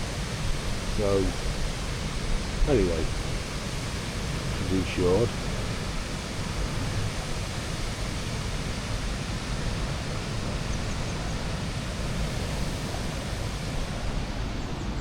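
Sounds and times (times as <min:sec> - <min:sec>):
waterfall rushing: 0:00.0 - 0:15.0
wind rumble on microphone: 0:00.0 - 0:15.0.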